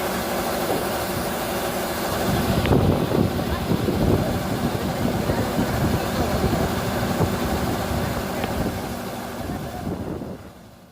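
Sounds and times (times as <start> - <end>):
combine harvester engine running: 0.0 - 10.9.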